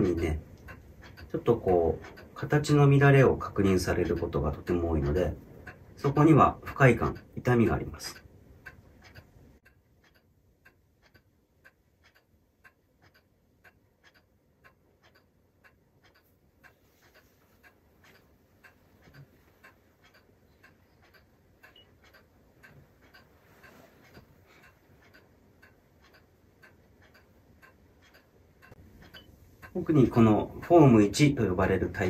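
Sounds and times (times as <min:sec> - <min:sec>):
clock ticking: 0:00.0 - 0:32.0.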